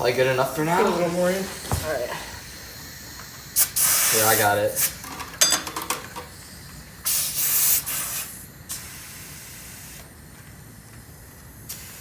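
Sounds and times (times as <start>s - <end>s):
air hissing from tire valve: 0.0s - 5.2s, 6.0s - 12.0s.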